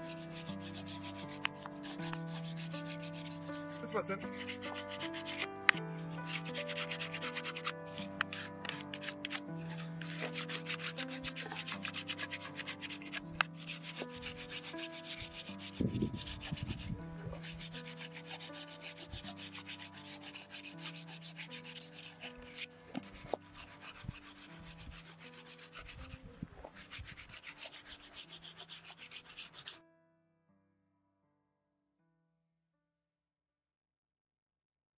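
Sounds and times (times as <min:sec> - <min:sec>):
sanding wood by hand: 0:00.0 - 0:29.8
soft background music: 0:00.0 - 0:30.1.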